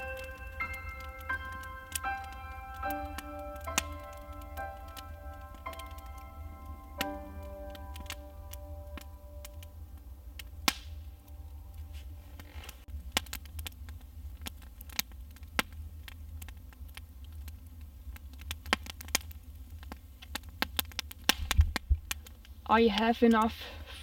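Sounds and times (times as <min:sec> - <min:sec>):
campfire crackling and popping: 0:00.0 - 0:24.0
low steady rumble: 0:00.0 - 0:24.0.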